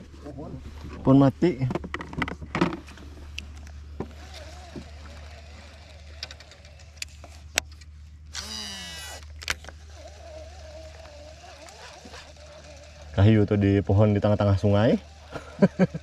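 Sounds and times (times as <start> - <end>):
faint steady drone: 0.0 - 16.0
fishing reel spool whirring: 3.2 - 16.0.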